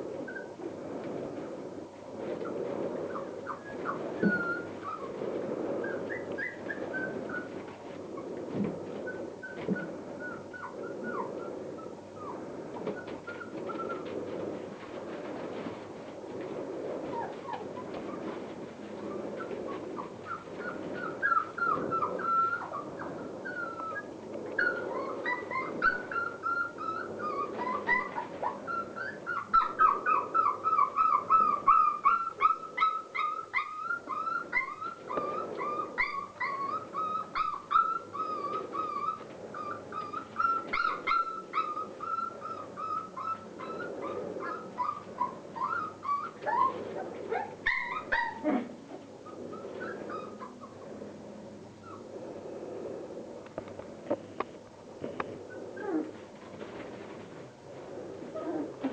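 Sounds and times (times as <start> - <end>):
puppies whimpering and yipping: 0.2 - 0.6, 2.4 - 15.7, 17.0 - 51.1, 51.8 - 52.1, 55.4 - 57.5, 58.2 - 58.9.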